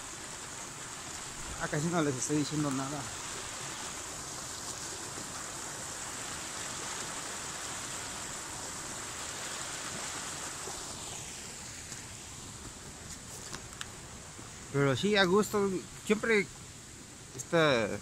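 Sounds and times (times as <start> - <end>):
rushing outdoor noise with hiss: 0.0 - 18.0.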